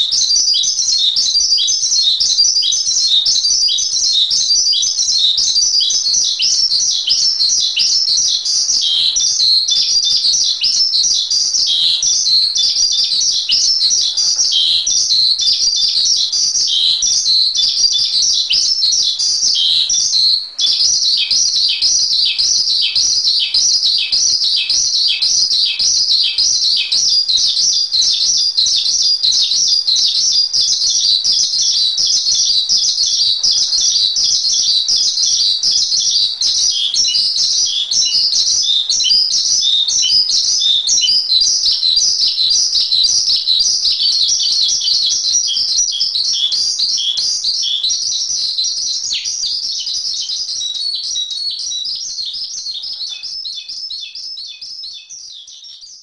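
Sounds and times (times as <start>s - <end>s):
starling chirping: 0.0s - 56.0s.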